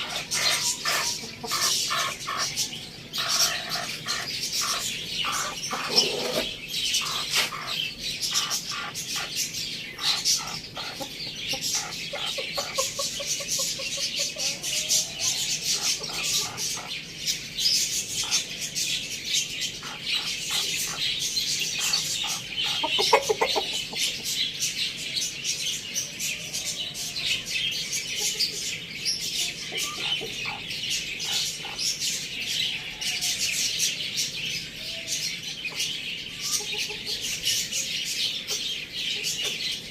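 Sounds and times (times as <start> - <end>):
birds chirping: 0.0 - 39.9
chickens clucking: 0.0 - 39.9.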